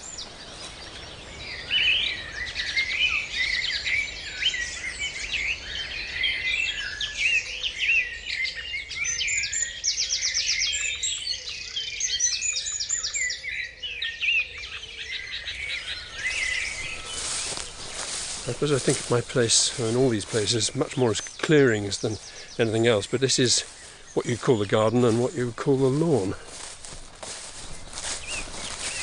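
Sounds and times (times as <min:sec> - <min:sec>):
songbirds singing and chirping: 0:00.0 - 0:29.0.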